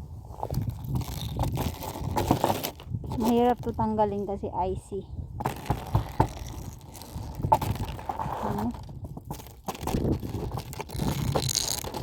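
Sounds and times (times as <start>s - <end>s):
ice crunching and cracking: 0.3s - 4.0s, 5.4s - 12.0s.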